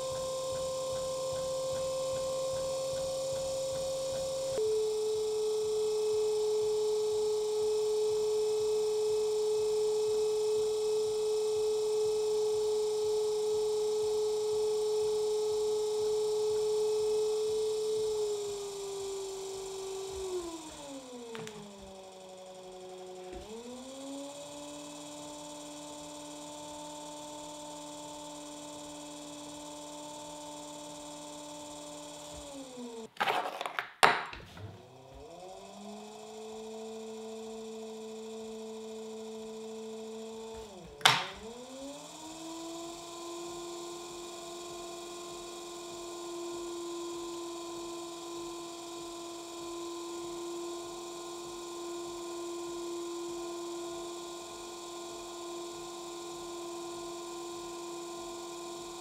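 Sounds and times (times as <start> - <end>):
pottery wheel motor humming: 0.0 - 33.2, 34.3 - 59.0.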